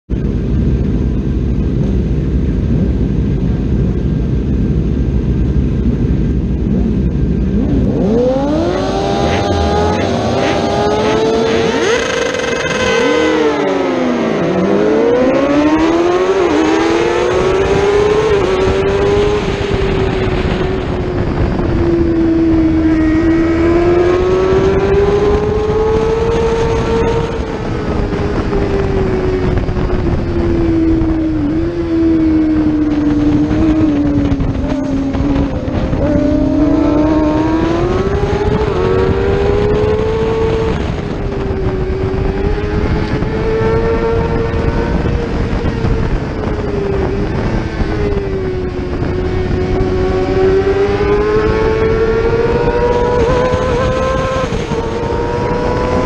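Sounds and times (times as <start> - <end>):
racing motorcycle engine: 0.1 - 56.0
motorcycles passing: 0.2 - 56.0.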